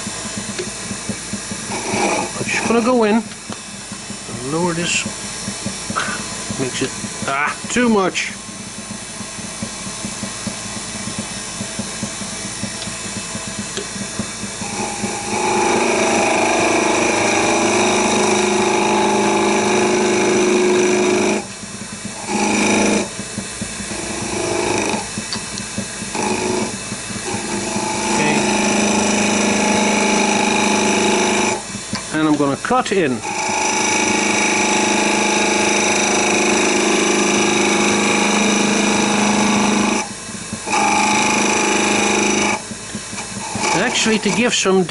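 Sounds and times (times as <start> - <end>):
turning tool cutting wood: 0.0 - 44.9
wood lathe running: 0.0 - 44.9.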